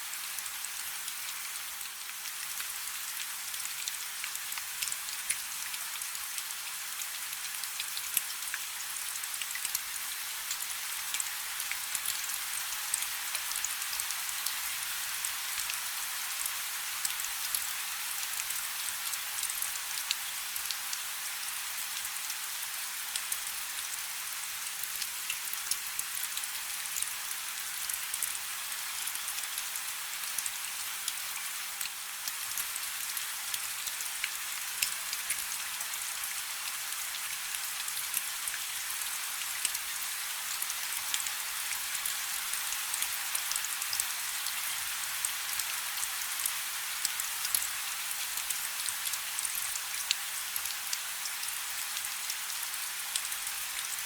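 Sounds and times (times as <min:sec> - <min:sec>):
raindrops ticking on surface: 0:01.8 - 0:14.6, 0:23.1 - 0:54.0.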